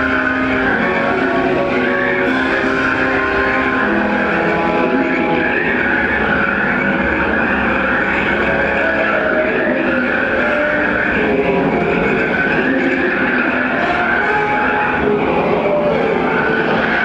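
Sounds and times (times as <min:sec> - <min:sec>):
wheels squealing on rails: 0:00.0 - 0:17.0.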